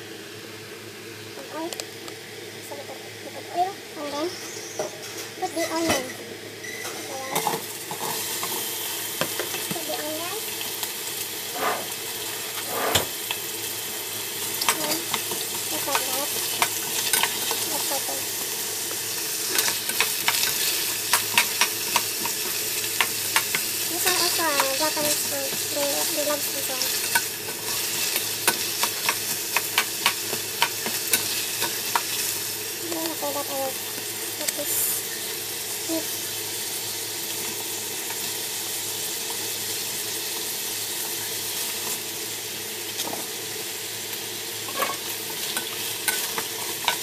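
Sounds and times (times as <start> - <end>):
onion sizzling in hot oil: 0.0 - 47.0.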